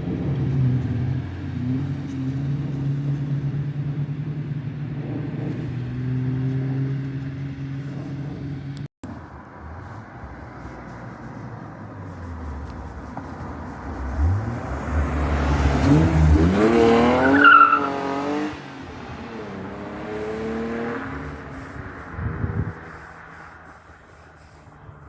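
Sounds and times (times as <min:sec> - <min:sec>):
car accelerating past: 0:00.0 - 0:25.0
quieter car passing: 0:00.0 - 0:25.0.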